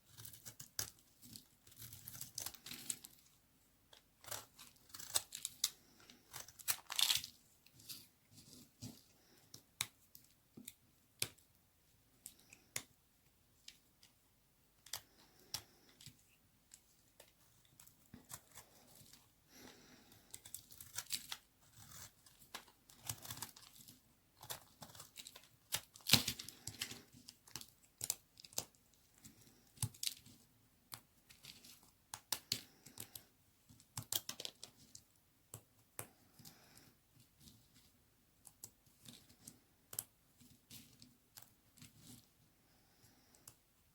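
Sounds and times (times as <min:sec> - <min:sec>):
knife cutting soap: 0:00.0 - 0:03.3, 0:03.9 - 0:13.0, 0:14.7 - 0:37.5.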